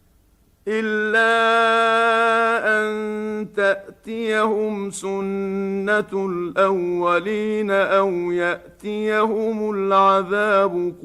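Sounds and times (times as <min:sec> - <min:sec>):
man reciting melodically: 0:00.6 - 0:11.0.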